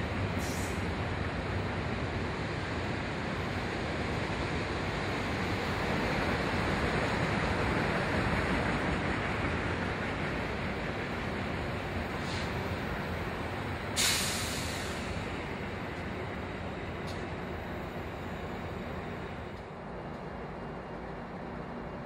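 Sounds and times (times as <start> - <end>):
train wheels rushing on rail: 0.0 - 22.0.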